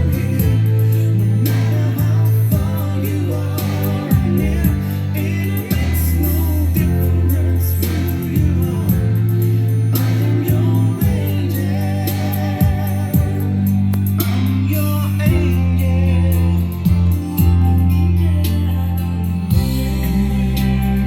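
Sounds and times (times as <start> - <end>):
song through speakers: 0.0 - 21.0.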